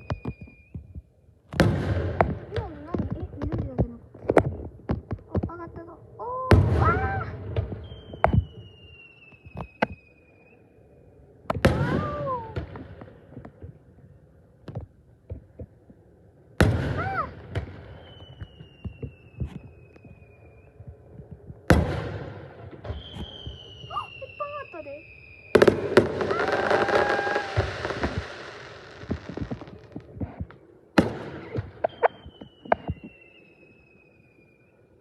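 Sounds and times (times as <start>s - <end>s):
fireworks crackling: 0.0s - 5.9s, 6.5s - 10.6s, 11.4s - 13.8s, 16.6s - 34.6s
fireworks booming: 0.0s - 10.0s, 11.4s - 13.8s, 16.6s - 33.4s.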